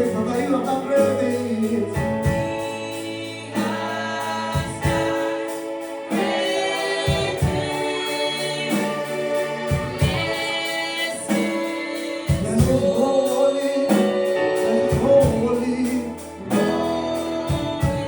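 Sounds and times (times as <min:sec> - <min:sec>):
band accompaniment: 0:00.0 - 0:18.0
group singing gospel song: 0:00.0 - 0:18.0.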